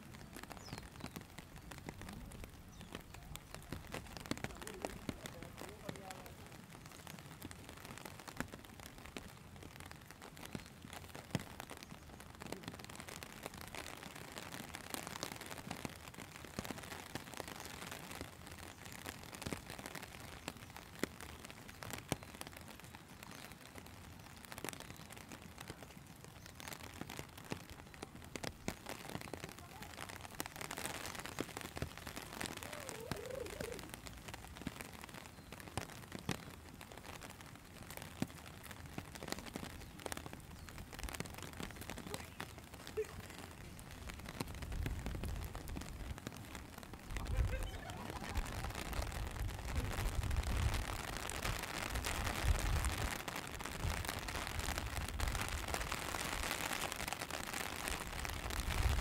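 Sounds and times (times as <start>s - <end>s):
raindrops striking close by: 0.0s - 59.0s
steady rain: 0.0s - 59.0s.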